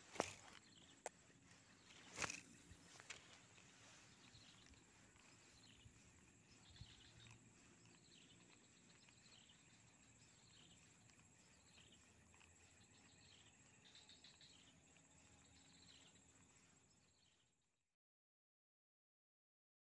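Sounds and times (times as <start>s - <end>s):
steady high-pitched hum: 0.0s - 17.4s.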